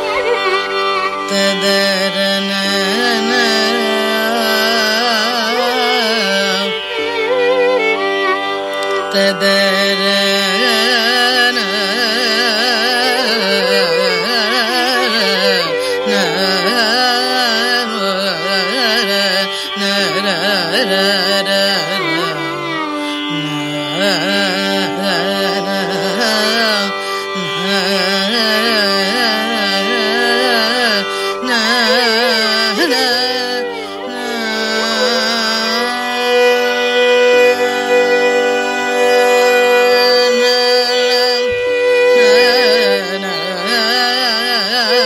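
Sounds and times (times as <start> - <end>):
woman singing ornamented melody: 0.0 - 45.0.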